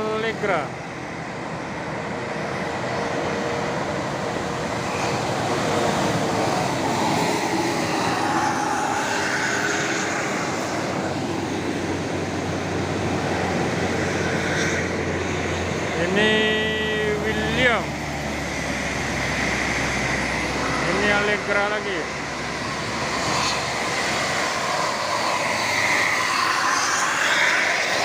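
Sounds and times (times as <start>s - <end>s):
bus driving past: 0.0s - 28.0s.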